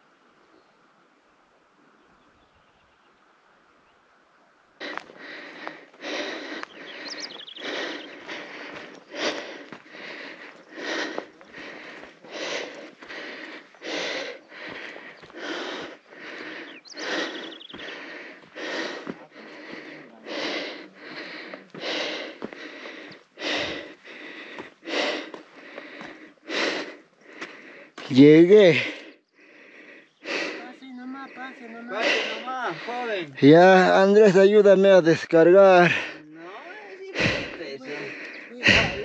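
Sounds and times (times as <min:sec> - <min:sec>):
person breathing hard: 0:04.8 - 0:34.1, 0:35.6 - 0:39.0.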